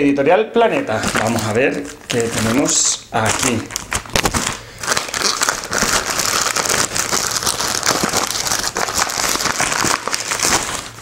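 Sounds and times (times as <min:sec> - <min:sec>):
plastic bag crinkling: 0:00.8 - 0:11.0.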